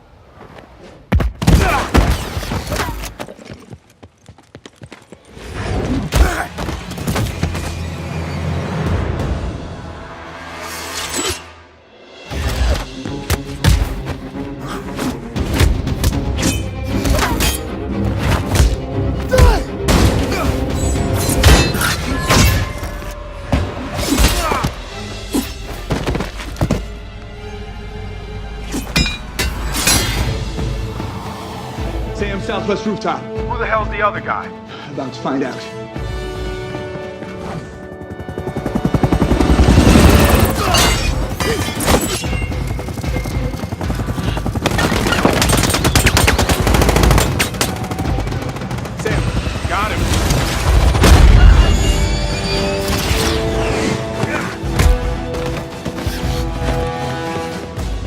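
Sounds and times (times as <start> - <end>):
dramatic film score: 0.0 - 3.5, 5.2 - 58.0.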